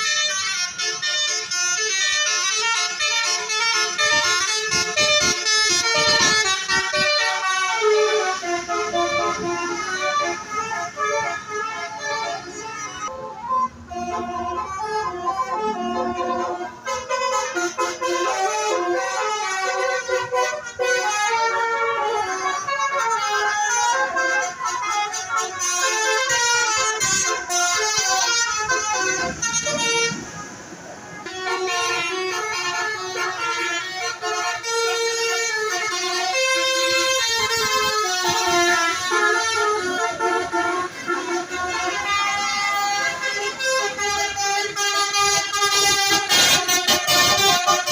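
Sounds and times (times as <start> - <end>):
bus musical horn playing tune: 0.0 - 47.9.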